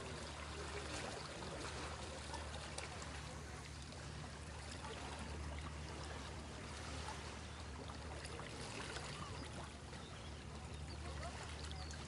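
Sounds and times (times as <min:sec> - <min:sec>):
boat engine humming: 0:00.0 - 0:12.0
faint chirps or distant voices: 0:00.0 - 0:12.0
water lapping and splashing: 0:00.0 - 0:12.0.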